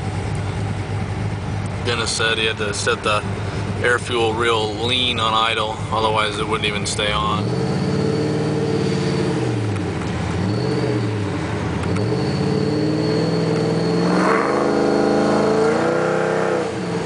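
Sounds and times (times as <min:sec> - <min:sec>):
car engine idling unevenly: 0:00.0 - 0:17.0
car engine revving: 0:00.0 - 0:17.0.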